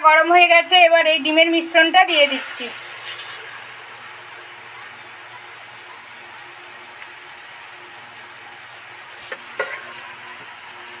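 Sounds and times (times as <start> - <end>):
batter sizzling in oil: 0.0 - 11.0.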